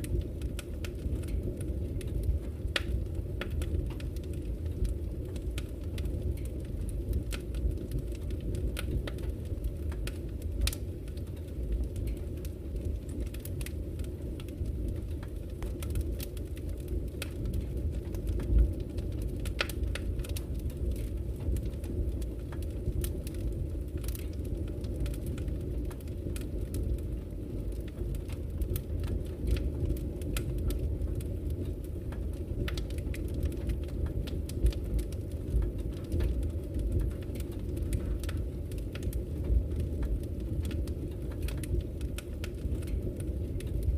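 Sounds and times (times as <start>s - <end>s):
fire roaring: 0.0s - 43.9s
logs crackling and popping: 0.0s - 43.9s.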